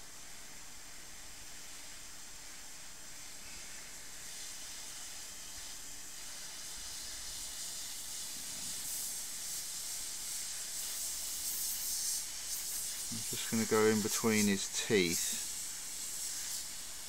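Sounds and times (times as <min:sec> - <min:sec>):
airbrush air hiss: 0:01.2 - 0:17.0.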